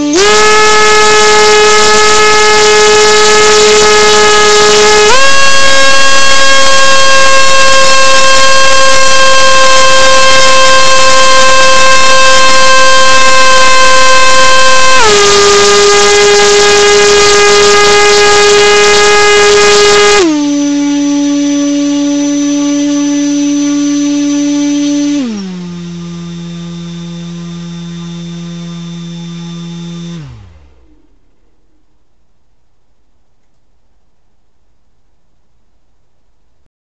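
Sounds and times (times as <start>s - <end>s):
drone motor whine: 0.0s - 31.9s.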